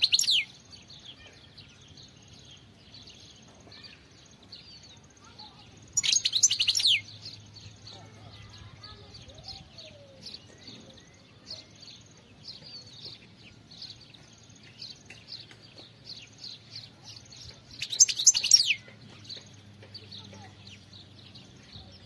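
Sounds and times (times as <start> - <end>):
finch twittering song: 0.0 - 22.0.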